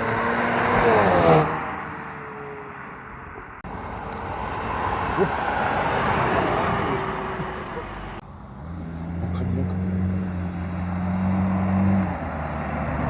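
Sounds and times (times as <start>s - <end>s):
car passing by: 0.0s - 2.2s, 3.7s - 13.0s
car approaching: 0.0s - 13.0s.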